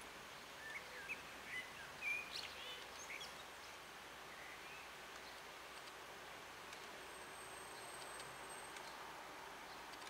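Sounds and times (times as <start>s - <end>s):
faint outdoor hiss: 0.0s - 10.0s.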